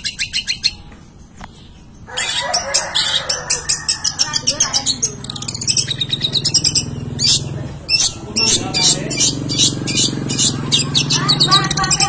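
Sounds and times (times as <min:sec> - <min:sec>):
shrike singing: 0:01.9 - 0:12.0.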